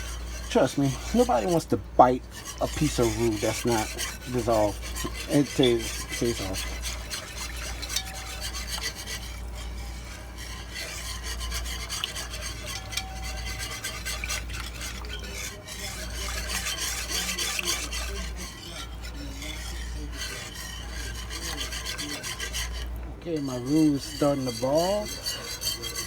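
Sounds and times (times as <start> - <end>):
whisk scraping a pot: 0.0 - 26.0.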